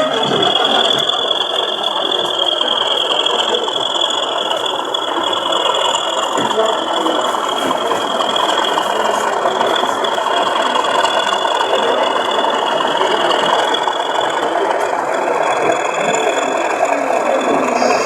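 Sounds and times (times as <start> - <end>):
model train whirring and rattling: 0.0 - 18.0.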